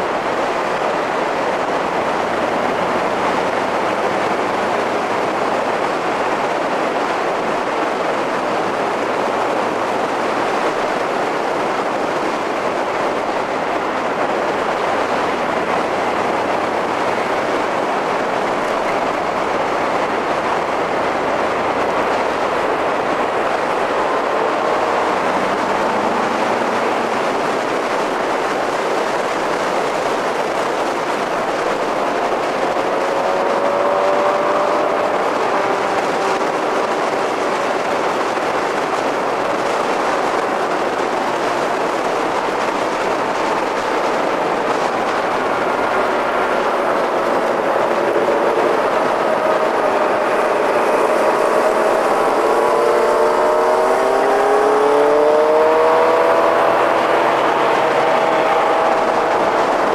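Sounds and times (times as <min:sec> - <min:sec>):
car engine rising and falling: 0:00.0 - 0:59.9
wind and road roar: 0:00.0 - 0:59.9.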